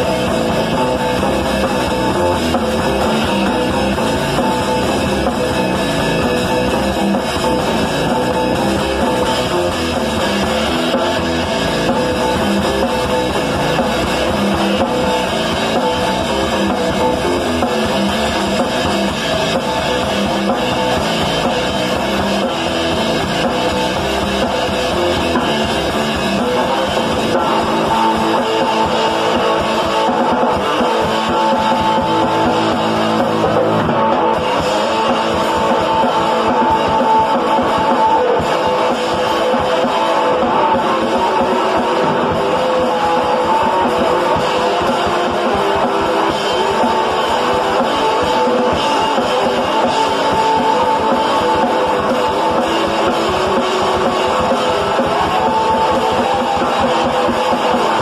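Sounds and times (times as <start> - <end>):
distorted electric guitar: 0.0 - 58.0
drum kit: 0.0 - 58.0.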